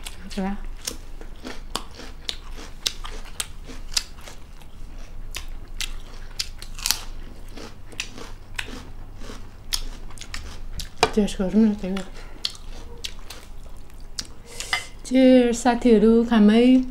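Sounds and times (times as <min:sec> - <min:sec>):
cucumber crunching while chewed: 0:00.0 - 0:11.2, 0:11.8 - 0:14.4.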